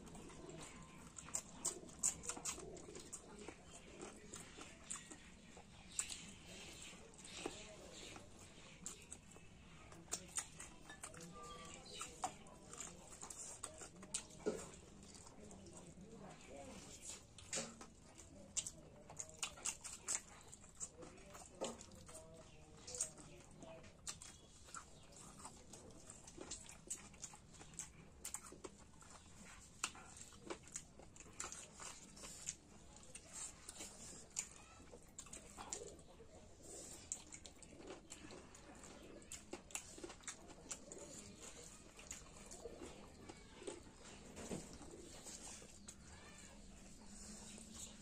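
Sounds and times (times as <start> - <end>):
chewing and lip smacks: 0.0 - 48.0.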